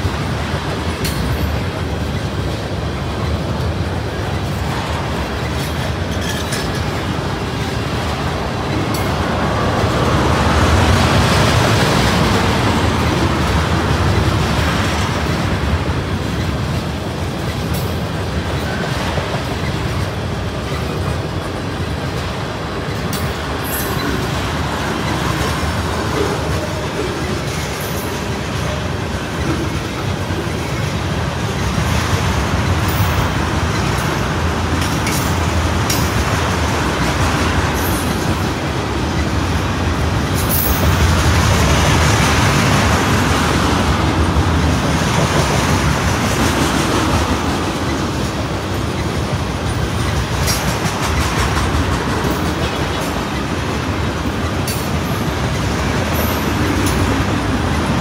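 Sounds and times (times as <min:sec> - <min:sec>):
train wheels rumbling on rails: 0:00.0 - 0:58.0
wheels clicking over rail joints: 0:00.0 - 0:58.0.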